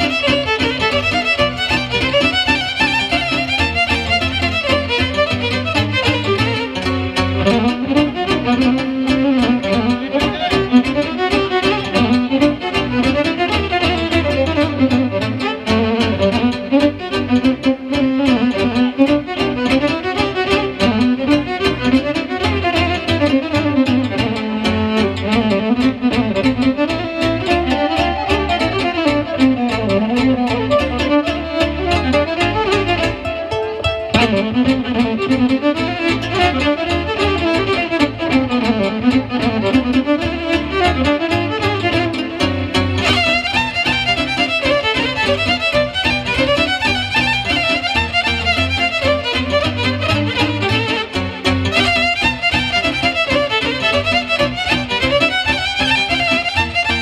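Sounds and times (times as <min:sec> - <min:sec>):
violin-led folk music: 0:00.0 - 0:57.0.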